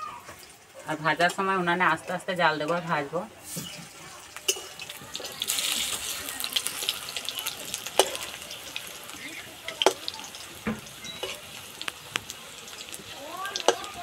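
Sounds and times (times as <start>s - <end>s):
pakoras sizzling in hot oil: 0.0s - 14.0s.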